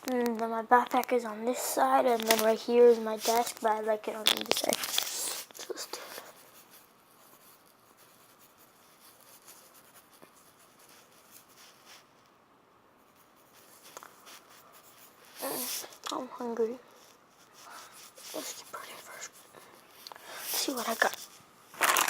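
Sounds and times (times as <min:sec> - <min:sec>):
faint scratching and rubbing: 0:00.0 - 0:12.3, 0:13.0 - 0:22.0.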